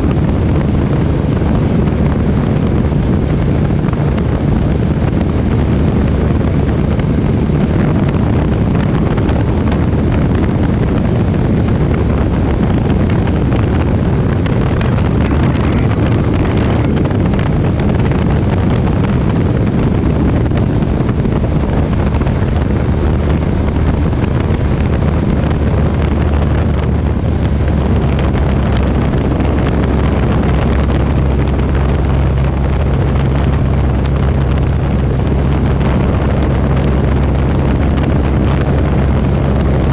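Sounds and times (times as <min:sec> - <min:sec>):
propeller plane engine droning: 0:00.0 - 0:39.9
wind rushing over microphone: 0:00.0 - 0:39.9.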